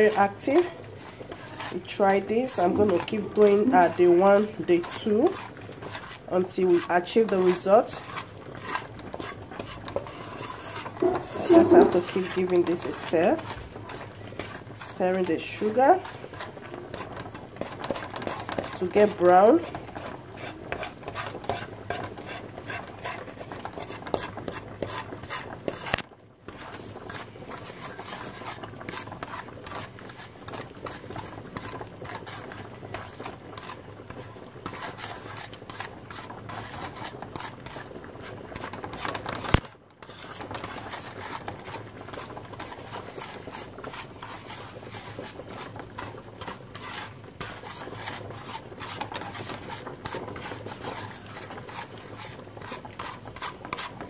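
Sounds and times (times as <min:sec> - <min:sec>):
spatula scraping sugar in pan: 0:00.0 - 0:54.0.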